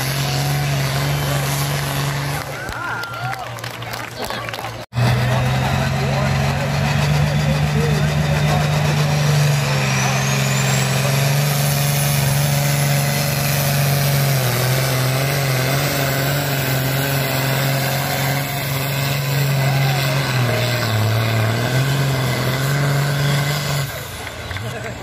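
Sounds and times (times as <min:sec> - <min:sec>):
tractor engine running hard: 0:00.0 - 0:02.8, 0:03.7 - 0:25.0.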